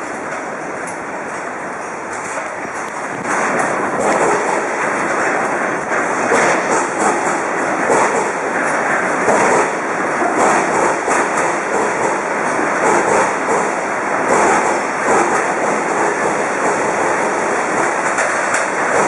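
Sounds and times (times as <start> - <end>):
building rumbling and rattling: 0.0 - 19.0.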